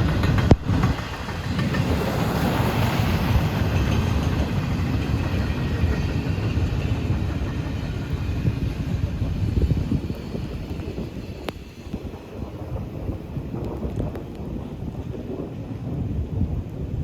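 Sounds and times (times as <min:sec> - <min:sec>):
passing train rumble: 0:00.0 - 0:17.0.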